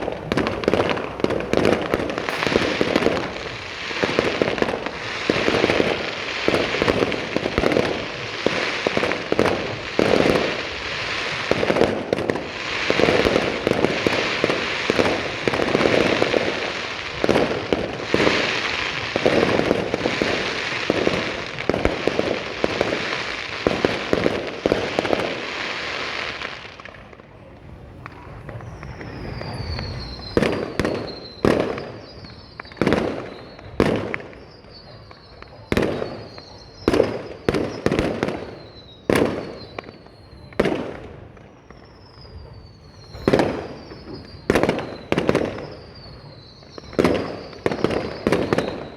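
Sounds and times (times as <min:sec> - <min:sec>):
falling firework whistle: 0:00.0 - 0:48.9
firework bangs: 0:00.0 - 0:48.9
fireworks crackling: 0:00.0 - 0:48.9.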